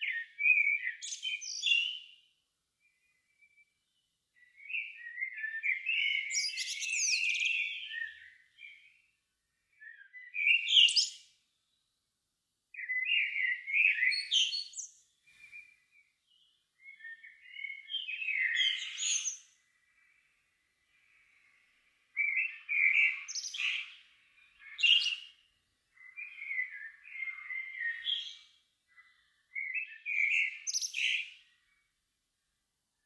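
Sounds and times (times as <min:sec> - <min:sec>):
songbird singing: 0:00.0 - 0:12.1, 0:12.7 - 0:32.5.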